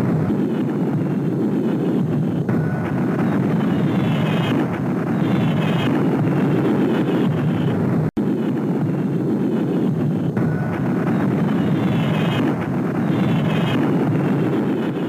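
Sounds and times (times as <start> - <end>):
loud rumbling noise: 0.0 - 15.0.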